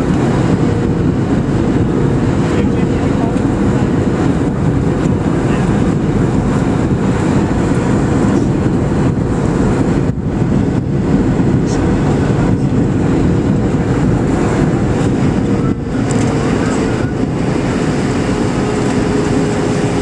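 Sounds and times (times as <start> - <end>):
aircraft engine and airflow rumble: 0.0 - 20.0.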